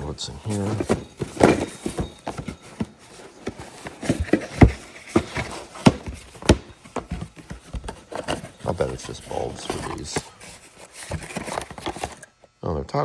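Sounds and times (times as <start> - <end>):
rummaging through box of parts: 0.0 - 12.3.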